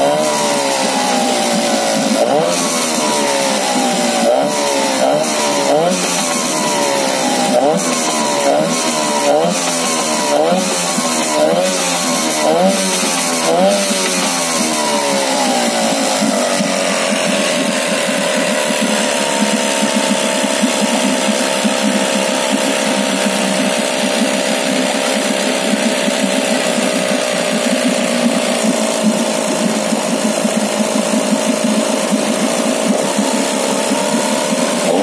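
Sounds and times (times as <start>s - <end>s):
outboard motor running at low speed: 0.0s - 35.0s.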